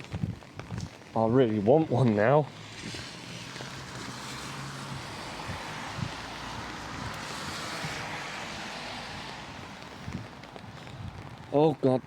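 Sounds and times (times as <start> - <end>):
heavy rain: 0.0 - 12.0
tyres hissing on wet road: 0.0 - 12.0.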